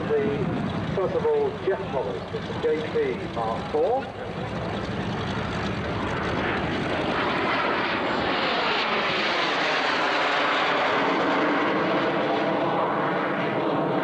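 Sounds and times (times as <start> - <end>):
jet aircraft flying overhead: 0.0 - 14.0.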